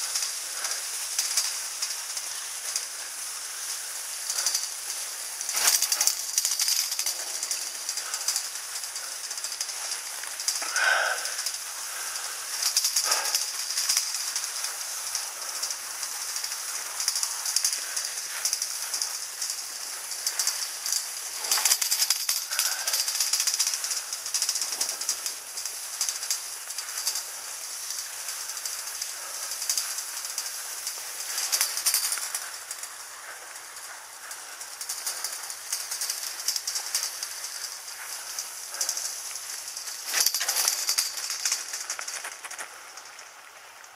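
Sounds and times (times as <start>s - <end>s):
skis scraping over snow: 0.0s - 43.9s.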